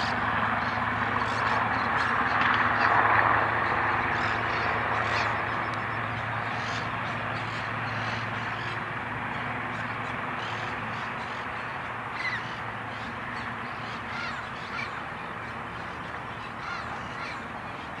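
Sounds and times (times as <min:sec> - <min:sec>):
birds calling: 0:00.0 - 0:18.0
helicopter rotor and engine: 0:00.0 - 0:18.0.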